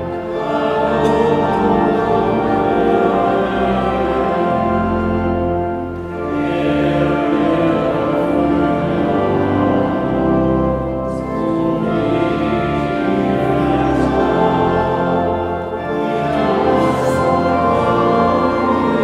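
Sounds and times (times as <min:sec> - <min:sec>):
slow sacred music chords: 0:00.0 - 0:19.0.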